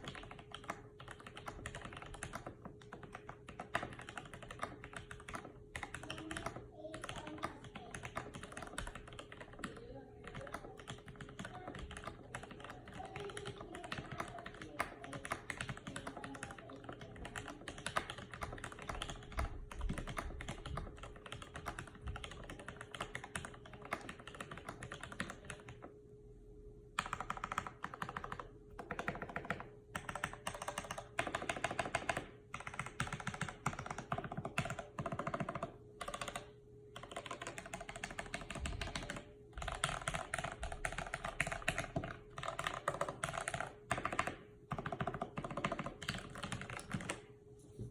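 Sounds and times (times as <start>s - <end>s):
mechanical keyboard typing: 0.0s - 25.9s, 27.0s - 47.3s.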